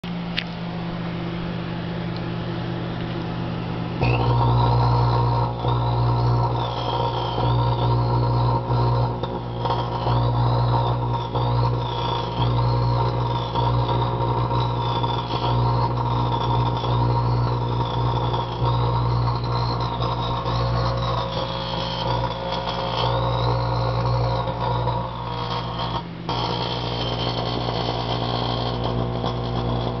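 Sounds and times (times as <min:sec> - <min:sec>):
high wavering whine: 0:00.0 - 0:30.0
microwave oven humming: 0:00.0 - 0:30.0.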